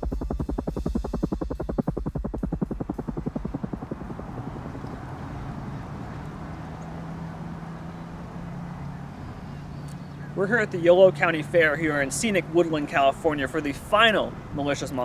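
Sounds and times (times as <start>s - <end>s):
helicopter rotor chopping: 0.0s - 15.0s
low engine hum: 0.0s - 15.0s.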